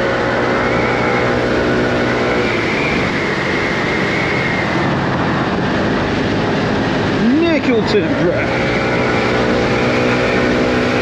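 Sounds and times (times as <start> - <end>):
road noise: 0.0 - 11.0
rushing wind: 0.0 - 11.0.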